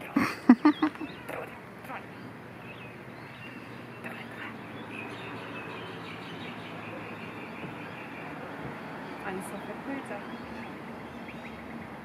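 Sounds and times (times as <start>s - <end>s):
birds chirping and calling: 0.0s - 12.0s
outdoor background noise: 0.0s - 12.0s.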